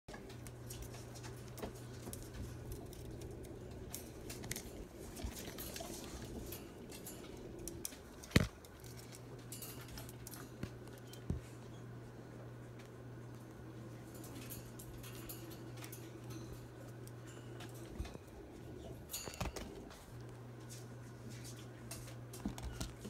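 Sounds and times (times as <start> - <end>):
marmosets scratching and clicking: 0.1 - 11.9, 12.7 - 23.0
low steady hum: 0.1 - 23.0.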